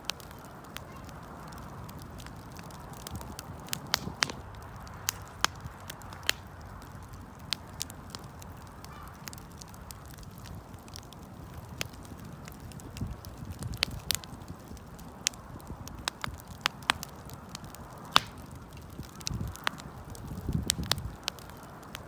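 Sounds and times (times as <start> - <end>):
campfire crackling and popping: 0.0 - 22.0
low hiss of burning: 0.0 - 22.0.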